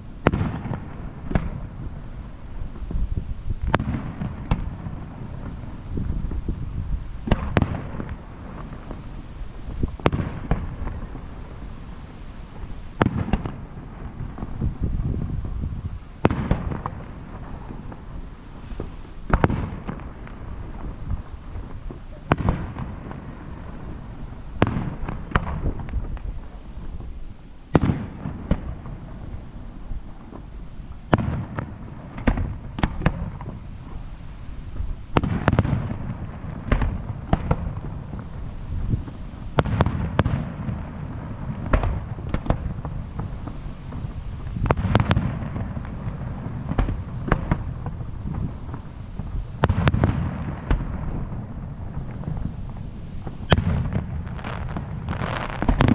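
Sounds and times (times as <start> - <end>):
fireworks bursting with sharp bangs: 0.0 - 55.9.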